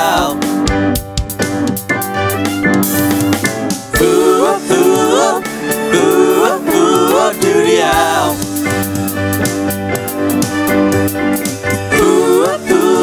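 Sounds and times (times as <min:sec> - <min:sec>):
backing chords and beat: 0:00.0 - 0:13.0.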